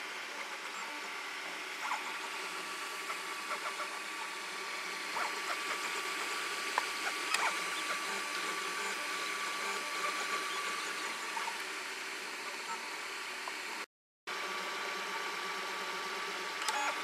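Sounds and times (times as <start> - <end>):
stepper motor whine: 0.0 - 17.0.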